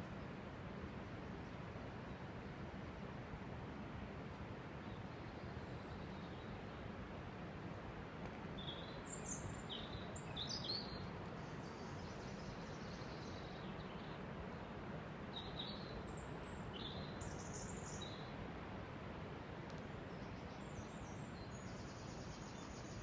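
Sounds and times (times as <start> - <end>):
steady background noise: 0.0 - 23.0
songbirds chirping: 4.1 - 23.0.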